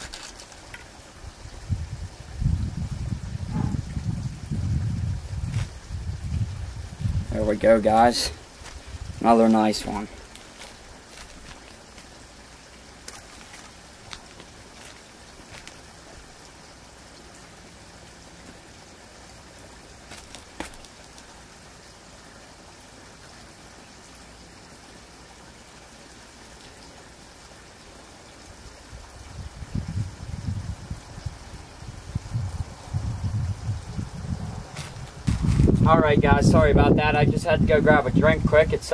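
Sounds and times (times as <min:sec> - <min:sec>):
steady soft hiss: 0:00.0 - 0:38.9.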